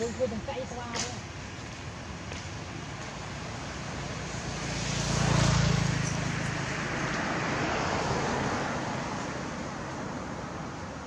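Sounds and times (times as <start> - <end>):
steady traffic noise: 0.0 - 11.0
vehicle passing on road: 0.0 - 11.0.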